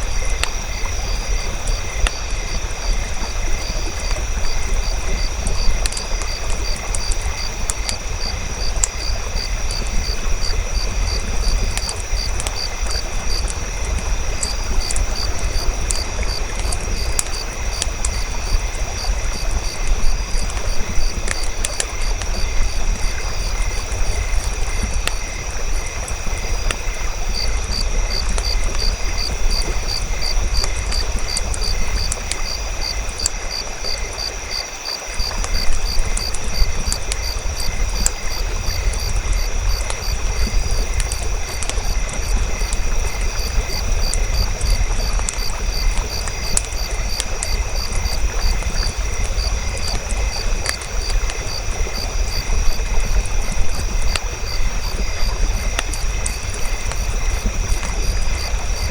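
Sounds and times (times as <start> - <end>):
campfire crackling and popping: 0.0 - 58.9
insects chirping: 0.0 - 58.9.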